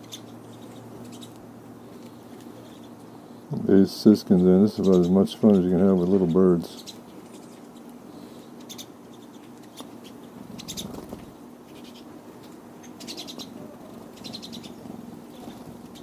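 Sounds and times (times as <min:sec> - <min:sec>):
birds twittering: 0:00.0 - 0:16.0.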